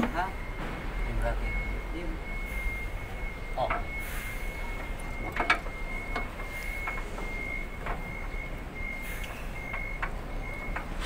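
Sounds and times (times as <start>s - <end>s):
reversing alarm beeping: 0.0s - 11.0s.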